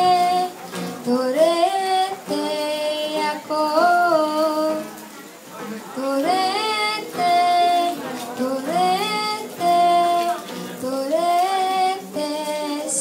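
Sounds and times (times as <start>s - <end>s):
girl singing: 0.0s - 5.0s, 5.9s - 13.0s
acoustic guitar: 0.0s - 13.0s.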